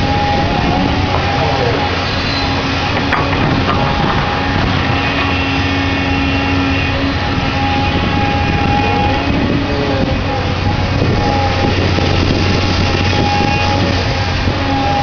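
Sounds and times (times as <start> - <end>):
excavator rumbling: 0.0 - 15.0.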